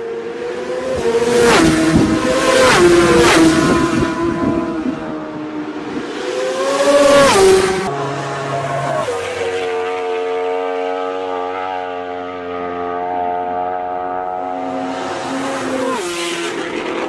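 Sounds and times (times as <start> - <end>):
motorcycle passing at speed: 0.0 - 17.0.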